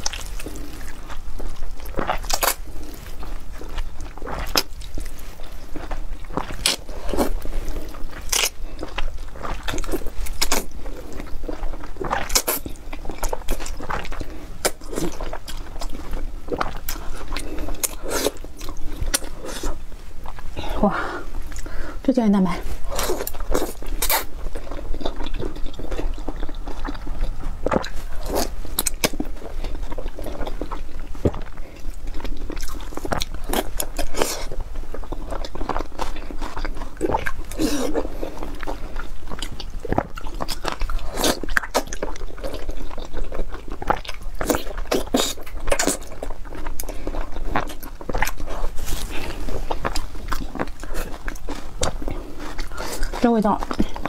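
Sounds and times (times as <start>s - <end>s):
person chewing wet food: 0.0s - 54.0s.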